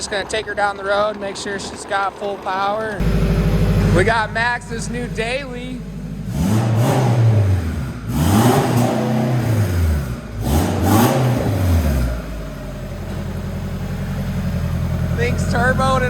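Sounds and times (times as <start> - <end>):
turbocharged engine revving: 2.8 - 16.0.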